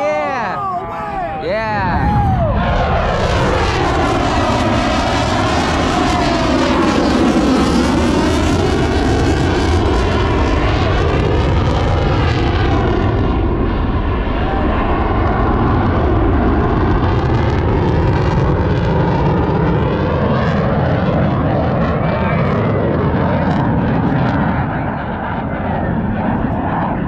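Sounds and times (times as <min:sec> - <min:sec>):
aircraft flying past overhead: 0:00.0 - 0:27.0.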